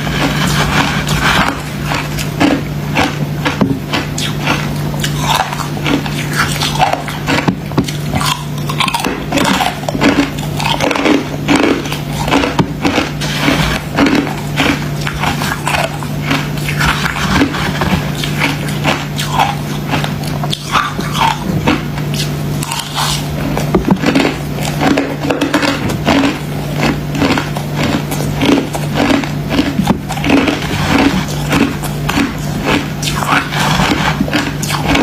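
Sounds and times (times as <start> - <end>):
constant low hum: 0.0 - 35.0
ice being chewed: 0.0 - 35.0.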